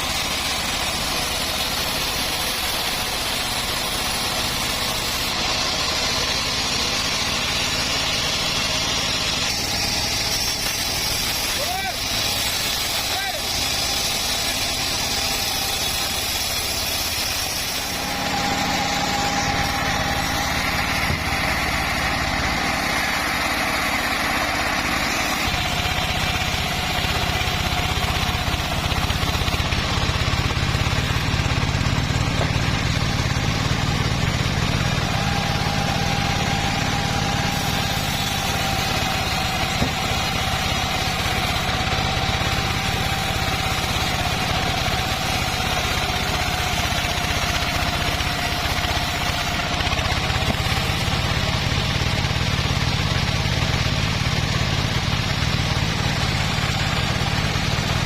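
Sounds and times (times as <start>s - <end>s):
bandsaw whine: 0.0s - 58.0s
engine drone: 0.0s - 58.0s.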